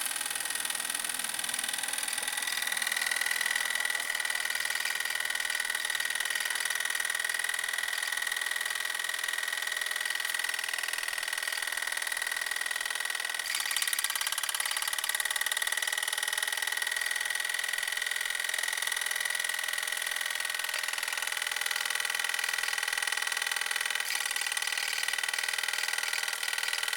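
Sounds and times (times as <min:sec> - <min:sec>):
toy steam engine chuffing: 0:00.0 - 0:26.9.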